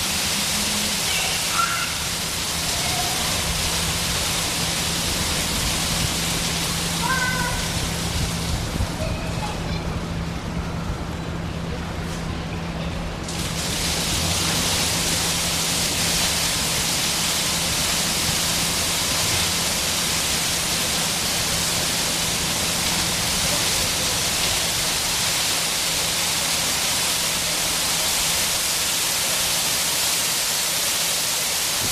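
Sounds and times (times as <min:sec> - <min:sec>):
water splashing onto wet paving: 0:00.0 - 0:09.6, 0:13.2 - 0:31.9.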